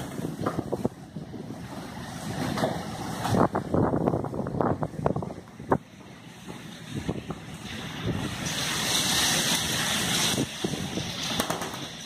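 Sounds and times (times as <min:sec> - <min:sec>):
heavy rain: 0:00.0 - 0:12.0
storm wind gusting: 0:00.0 - 0:12.0.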